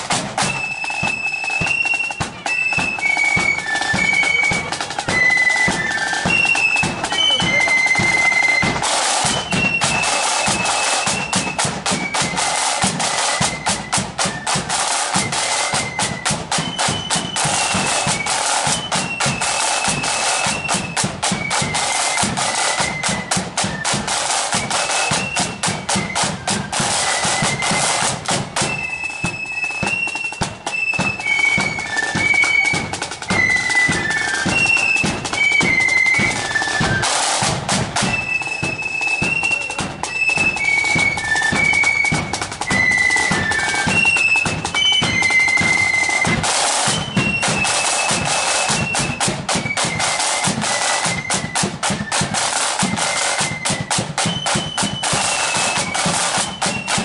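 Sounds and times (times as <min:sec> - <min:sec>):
flute melody: 0:00.0 - 0:57.0
side drums beating and rolling: 0:00.0 - 0:57.0.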